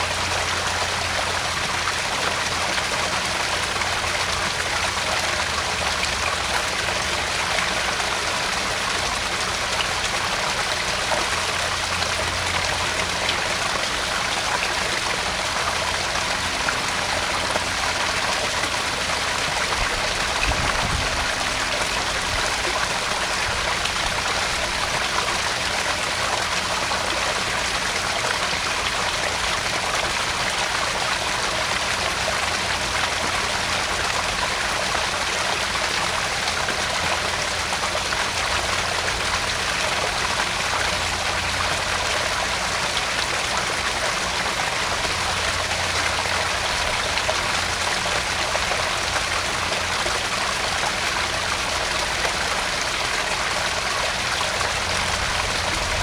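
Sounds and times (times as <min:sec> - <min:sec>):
water splashing into pond: 0:00.0 - 0:56.0.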